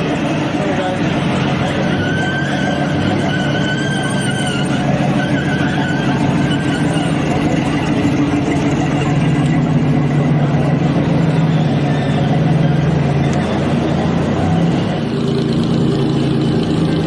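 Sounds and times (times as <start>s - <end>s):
street noise: 0.0s - 17.0s
vehicle engine running: 0.0s - 17.0s.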